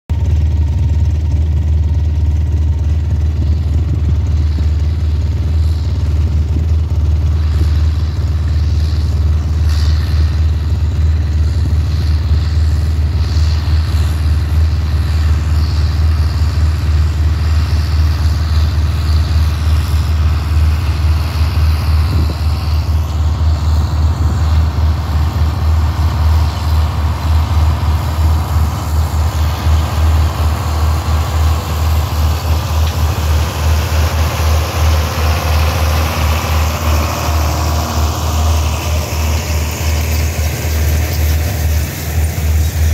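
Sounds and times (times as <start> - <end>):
tractor engine running: 0.1 - 42.9.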